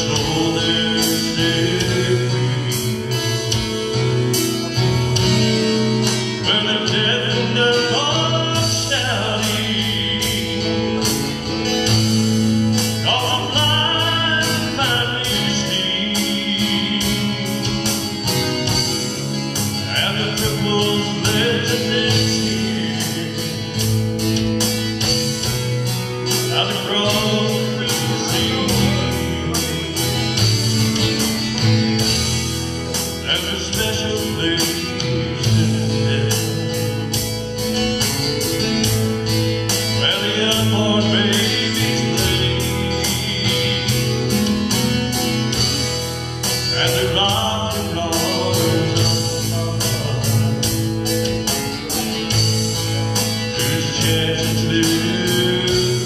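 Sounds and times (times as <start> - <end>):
man singing gospel song: 0.0 - 4.0, 5.4 - 56.0
acoustic guitar strumming: 0.0 - 56.0.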